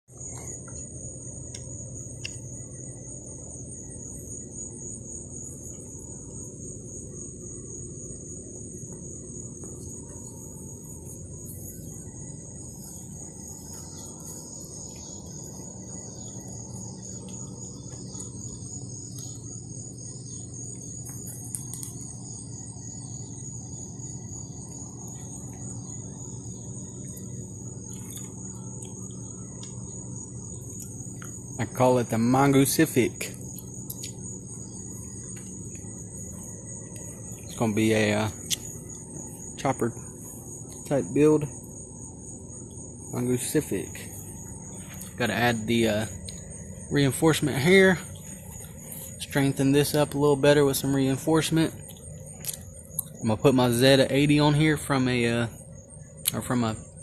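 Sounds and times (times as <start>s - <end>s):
crickets chirring: 0.0s - 57.0s
low steady hum: 0.1s - 57.0s.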